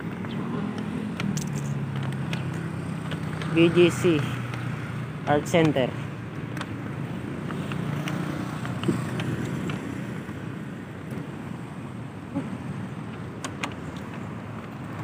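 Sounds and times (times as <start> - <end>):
passing cars humming: 0.0 - 15.0.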